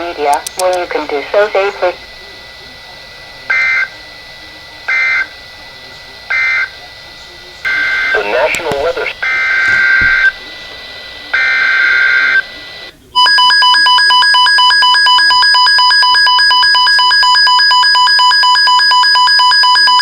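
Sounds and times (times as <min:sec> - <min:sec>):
steady warning attention tone: 0:00.0 - 0:20.0.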